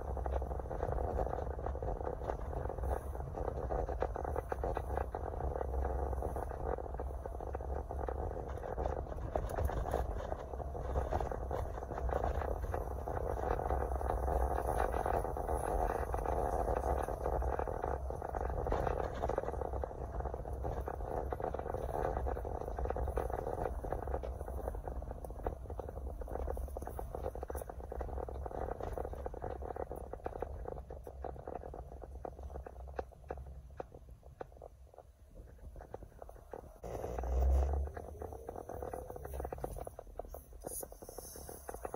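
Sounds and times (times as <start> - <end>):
car road and engine noise: 0.0 - 41.9
small clicks and rattles: 0.0 - 41.9.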